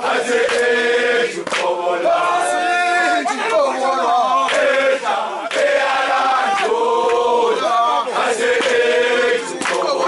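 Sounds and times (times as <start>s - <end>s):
men chanting together: 0.0s - 10.0s.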